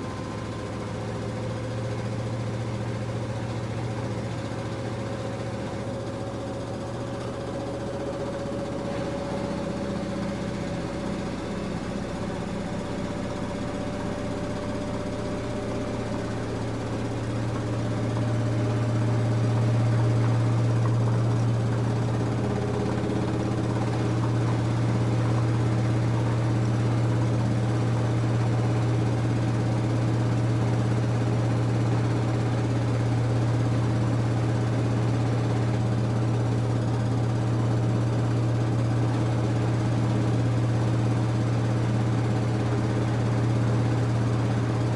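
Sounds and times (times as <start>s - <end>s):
washing machine motor hum: 0.0s - 44.9s.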